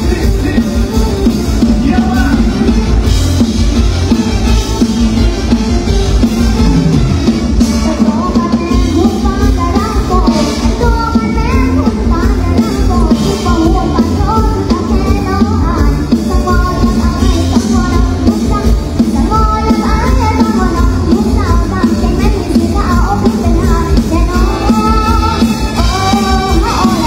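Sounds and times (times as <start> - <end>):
person singing: 0.0 - 3.0, 7.6 - 27.0
live band music over speakers: 0.0 - 27.0.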